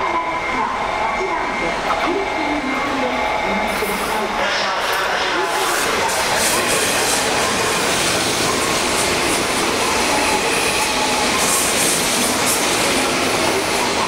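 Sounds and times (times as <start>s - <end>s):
train wheels running on rails: 0.0s - 14.0s.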